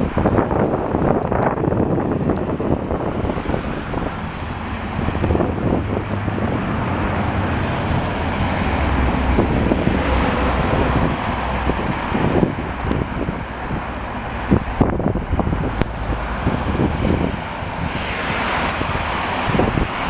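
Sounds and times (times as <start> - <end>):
wind gusting over microphone: 0.0 - 20.0.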